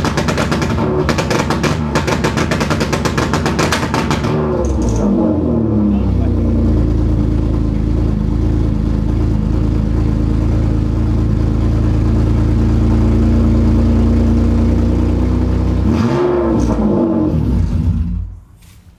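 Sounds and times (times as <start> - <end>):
car engine idling through exhaust: 0.0 - 18.5.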